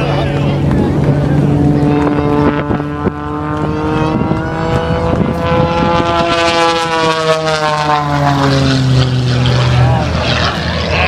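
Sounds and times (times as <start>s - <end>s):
propeller aircraft engine passing: 0.0s - 11.0s.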